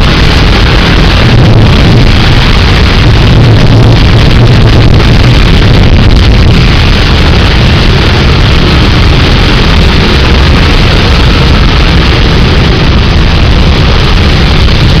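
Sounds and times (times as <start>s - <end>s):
heavy rain pouring: 0.0s - 15.0s
wind buffeting microphone: 0.0s - 15.0s.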